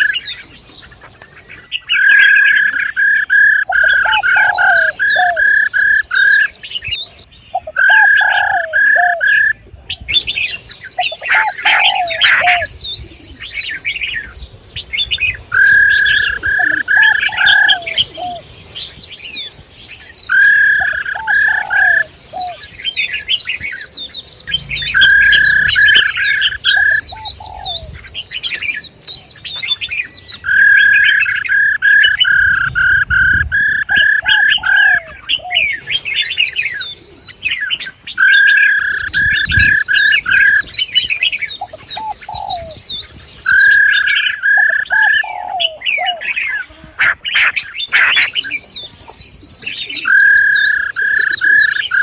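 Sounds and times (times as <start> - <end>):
run of clear bird notes: 0.0 - 52.0
songbirds twittering: 0.0 - 52.0.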